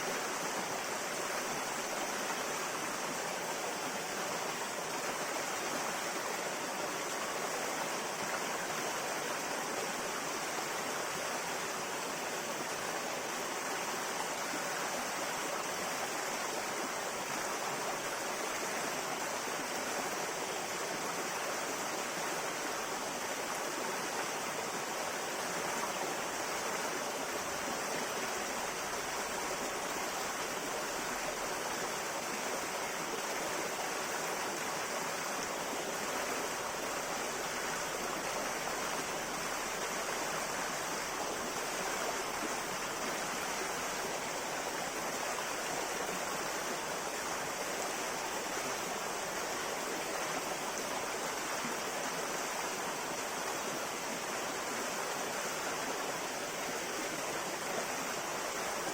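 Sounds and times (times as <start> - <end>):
river water flowing over stones: 0.0 - 58.9.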